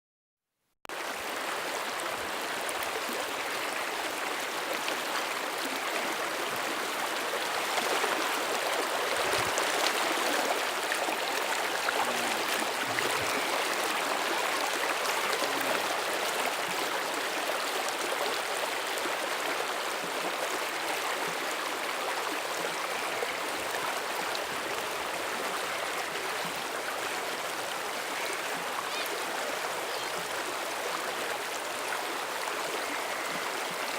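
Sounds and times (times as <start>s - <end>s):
floodwater rushing: 1.0s - 33.9s.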